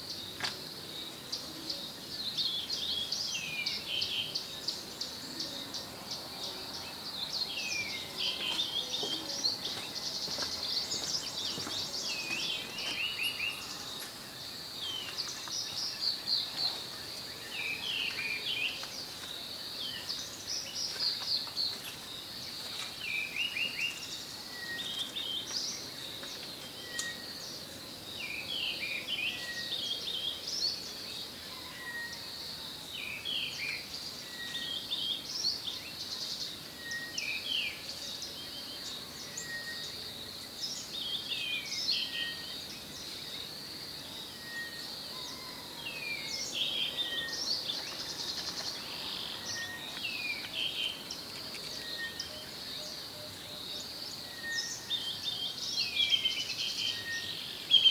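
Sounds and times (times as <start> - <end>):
birds chirping and twittering: 0.0 - 57.9.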